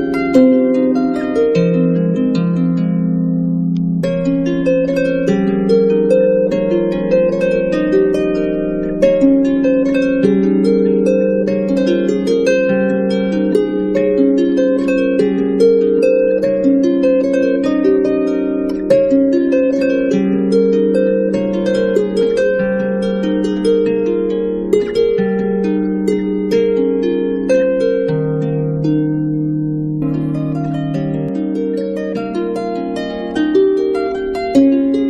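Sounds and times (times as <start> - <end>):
harp music: 0.0 - 35.0.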